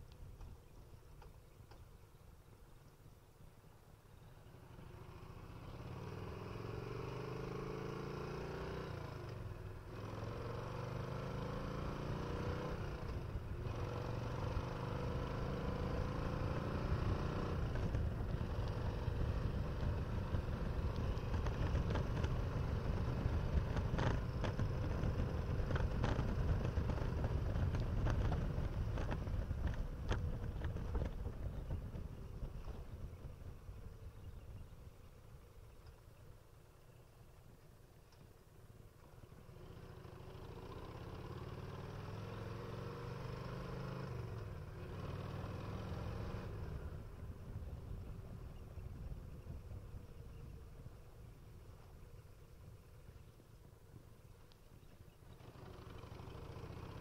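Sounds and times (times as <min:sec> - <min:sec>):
motorcycle engine accelerating: 0:04.4 - 0:36.0, 0:39.0 - 0:53.4, 0:54.8 - 0:57.0.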